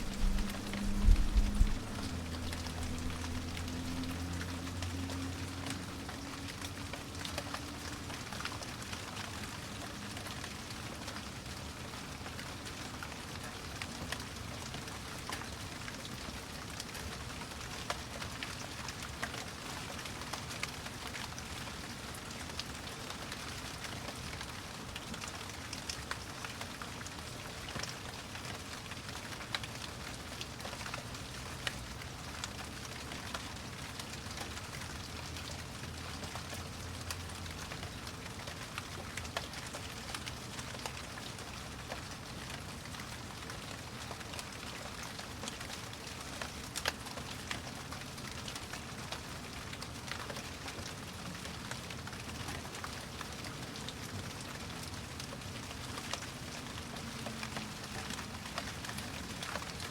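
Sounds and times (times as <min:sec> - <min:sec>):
raindrops ticking: 0:00.0 - 0:59.9
steady rain falling: 0:00.0 - 0:59.9.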